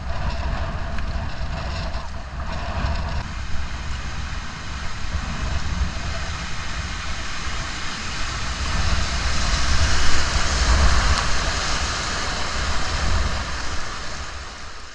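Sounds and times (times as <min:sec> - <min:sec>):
low rumble on microphone: 0:00.0 - 0:14.9.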